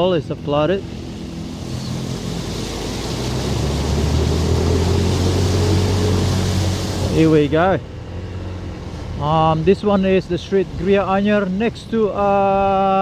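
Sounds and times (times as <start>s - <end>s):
road noise: 0.0s - 13.0s
vehicle engine humming: 0.1s - 11.2s.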